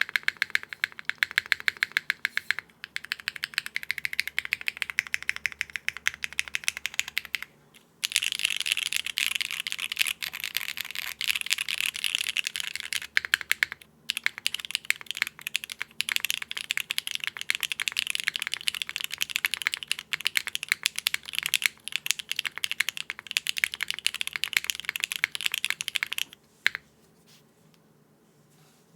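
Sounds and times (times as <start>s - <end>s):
mechanical keyboard clacking: 0.0s - 26.8s.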